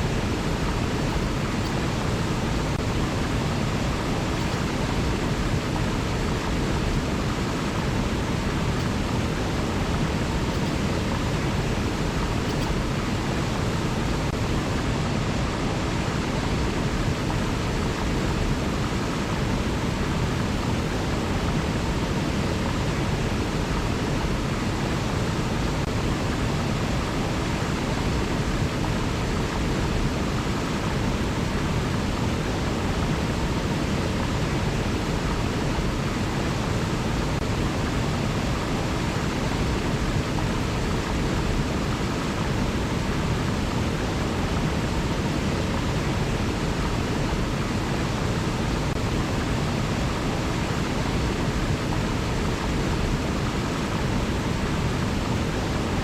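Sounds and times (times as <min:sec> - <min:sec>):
river water rushing: 0:00.0 - 0:19.5, 0:24.6 - 0:56.0.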